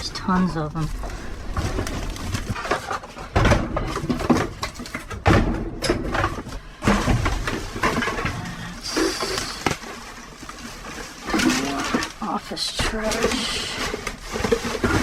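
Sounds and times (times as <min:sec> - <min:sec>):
rustling of trash bags: 0:00.0 - 0:05.2, 0:06.1 - 0:15.0
knocks and clatters: 0:00.0 - 0:15.0.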